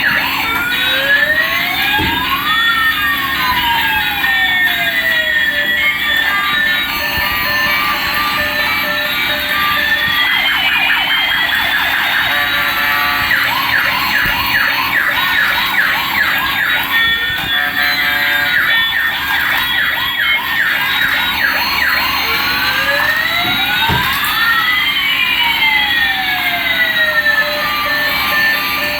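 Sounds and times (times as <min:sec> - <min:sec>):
toy police siren: 0:00.0 - 0:28.9.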